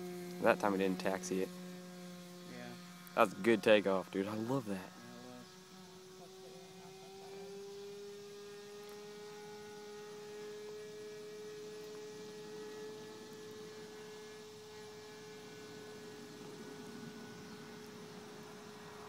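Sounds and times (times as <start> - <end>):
model airplane motor drone: 0.0 - 19.0.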